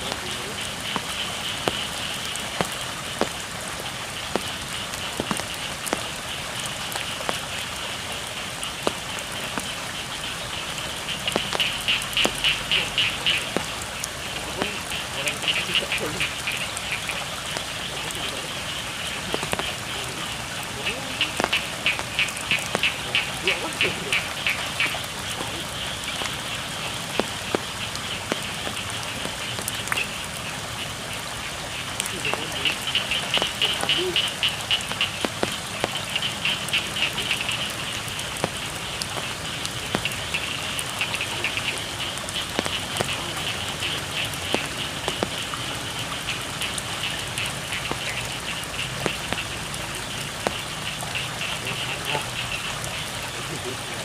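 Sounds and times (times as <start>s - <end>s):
close raindrops striking: 0.0s - 54.0s
frogs chorus: 0.0s - 54.0s
rain falling: 0.0s - 54.0s.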